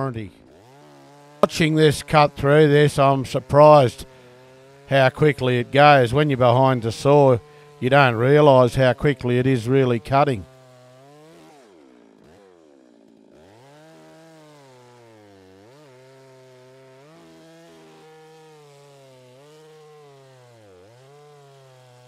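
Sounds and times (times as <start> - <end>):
chainsaw cutting log: 0.0 - 22.0.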